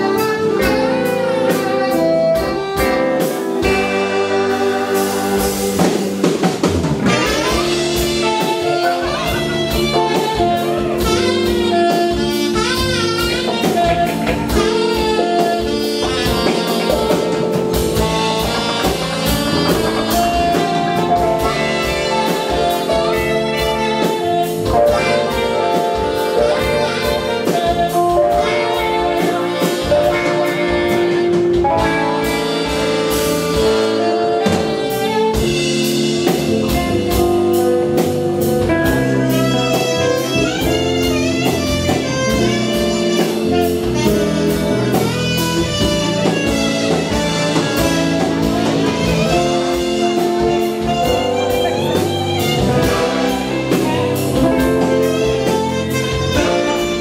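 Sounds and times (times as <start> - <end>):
drum kit beat: 0.0 - 57.0
guitar: 0.0 - 57.0
horn section: 0.0 - 57.0
keyboard: 0.0 - 57.0.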